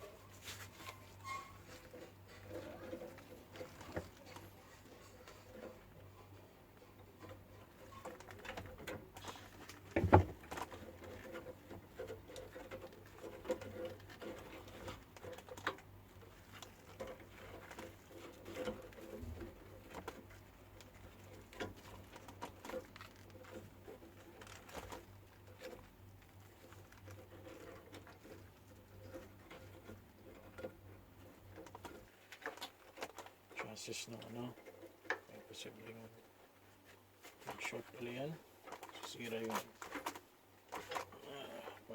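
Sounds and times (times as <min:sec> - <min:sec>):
small clicks and knocks: 0:00.8 - 0:36.0.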